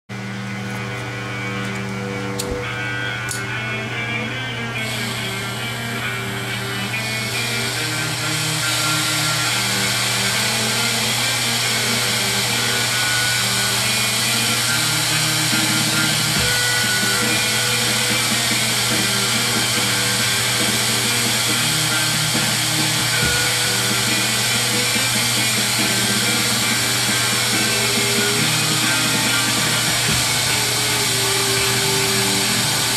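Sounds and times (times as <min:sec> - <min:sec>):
music playing: 0:00.1 - 0:32.9
torch flame hissing: 0:04.8 - 0:32.9.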